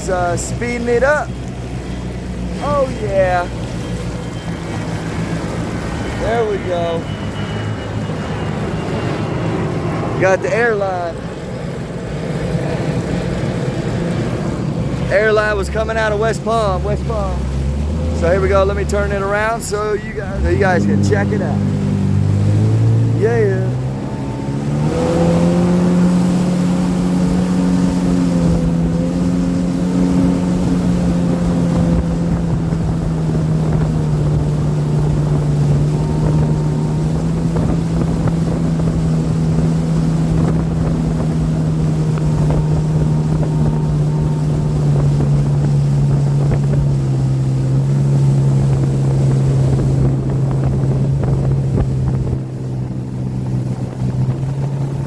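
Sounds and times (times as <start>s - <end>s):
motorboat engine drone: 0.0s - 55.0s
wind buffeting microphone: 0.0s - 55.0s.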